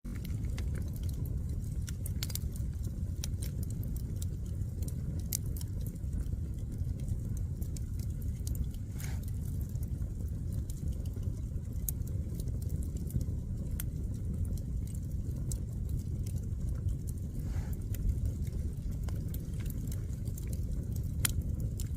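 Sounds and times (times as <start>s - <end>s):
firewood crackling and popping: 0.0s - 21.9s
flame rushing: 0.1s - 21.9s.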